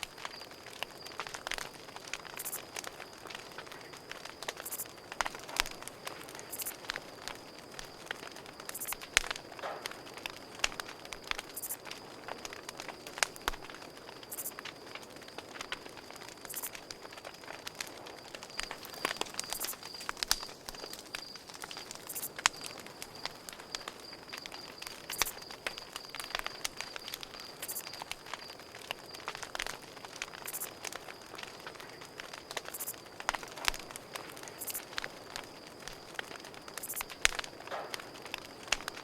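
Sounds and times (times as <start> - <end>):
campfire crackling and popping: 0.0 - 39.0
cricket chirping: 0.0 - 39.0.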